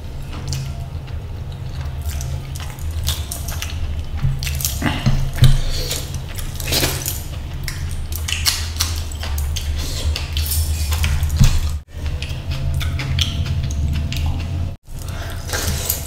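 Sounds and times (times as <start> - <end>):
hand mixing rice and curry: 0.0 - 16.0
steady low hum: 0.0 - 16.0.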